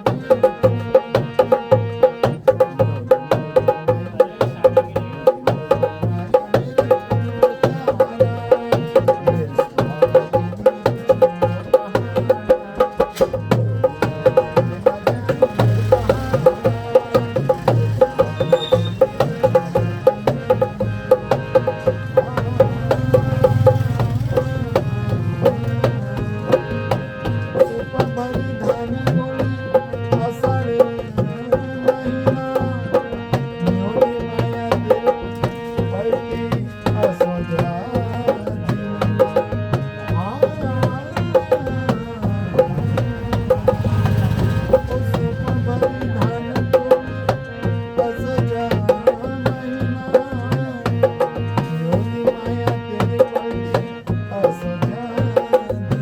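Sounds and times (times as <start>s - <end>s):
hand drum beat: 0.0s - 56.0s
held melody tones: 0.0s - 56.0s.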